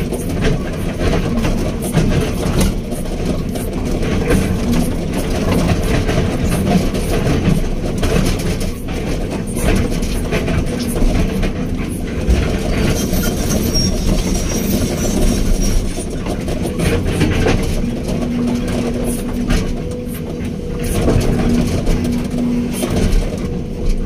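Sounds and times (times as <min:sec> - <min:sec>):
diesel engine running: 0:00.0 - 0:24.0
steady whine: 0:00.0 - 0:24.0.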